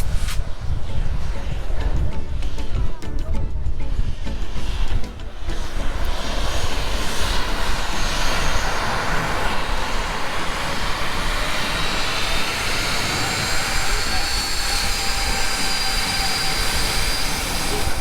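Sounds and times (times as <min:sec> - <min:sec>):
faint high whine: 0:00.0 - 0:18.0
jet engines roaring: 0:00.0 - 0:18.0.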